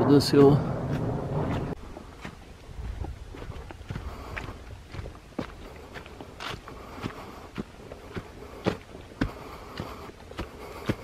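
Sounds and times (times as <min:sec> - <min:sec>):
footsteps crunching on forest trail: 0:00.3 - 0:11.0.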